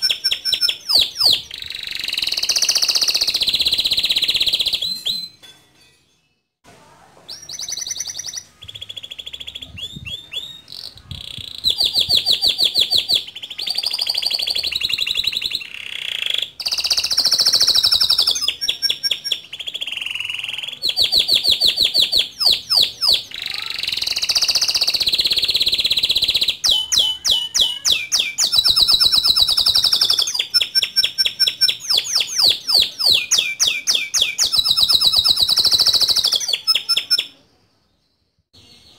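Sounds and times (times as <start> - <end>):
canary singing trills: 0.0 - 5.5, 7.3 - 38.9.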